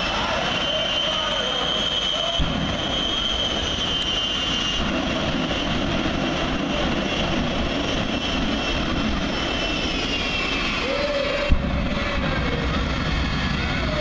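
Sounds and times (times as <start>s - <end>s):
high turbine whine: 0.0s - 14.0s
jet engine roaring: 0.0s - 14.0s.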